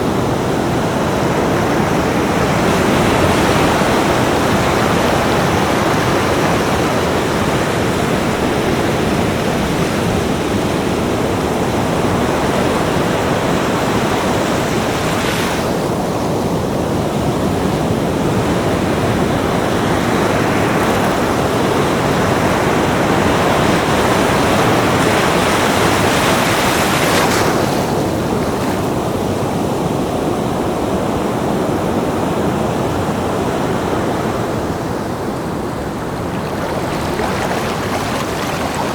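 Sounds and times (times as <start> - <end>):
ocean waves breaking: 0.0 - 16.4, 17.8 - 38.9.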